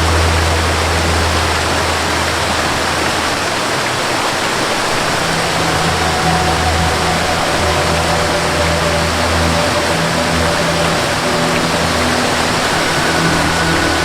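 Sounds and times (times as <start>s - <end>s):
soft sustained melody notes: 0.0s - 14.0s
waterfall rushing: 0.0s - 14.0s.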